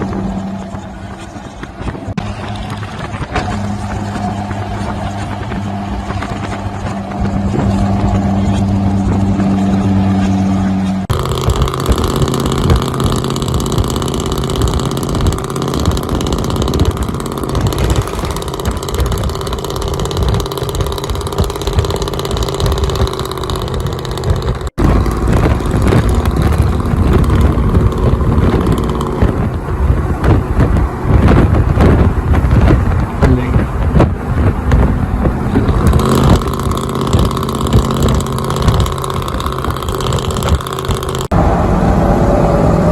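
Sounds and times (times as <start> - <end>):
road noise: 0.0 - 42.9
truck engines through straight pipes: 0.0 - 42.9.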